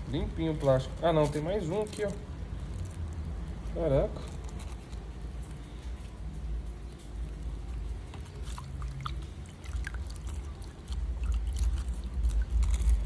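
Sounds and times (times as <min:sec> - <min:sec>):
plastic crinkling: 0:00.0 - 0:13.0.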